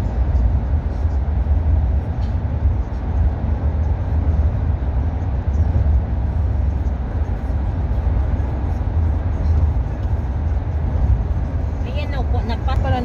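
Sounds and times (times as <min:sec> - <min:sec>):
vehicle rumble in tunnel: 0:00.0 - 0:13.0.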